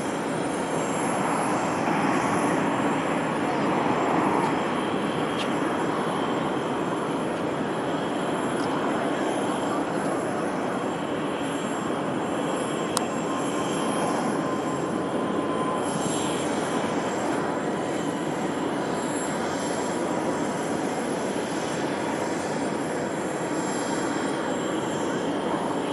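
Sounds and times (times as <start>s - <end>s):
turboprop aircraft engines droning: 0.0s - 25.9s.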